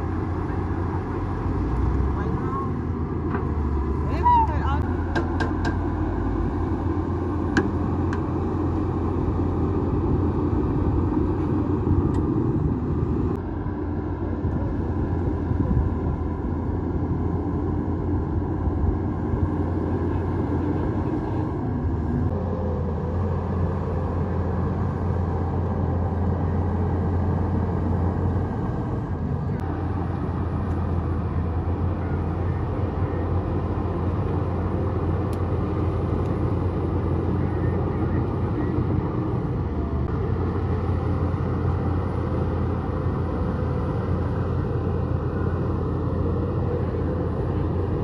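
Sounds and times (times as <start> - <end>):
bulldozer diesel engine rumbling: 0.0 - 48.0.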